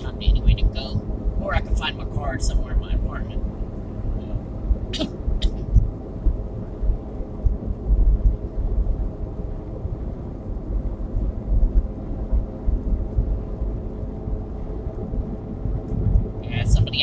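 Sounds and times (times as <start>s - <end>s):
car road and tyre rumble: 0.0s - 17.0s.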